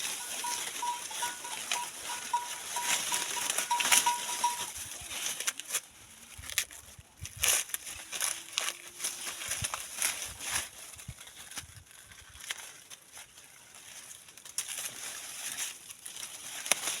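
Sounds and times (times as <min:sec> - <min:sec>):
dry maize plants rustling: 0:00.0 - 0:17.0
leaves and husks crackling: 0:00.0 - 0:17.0.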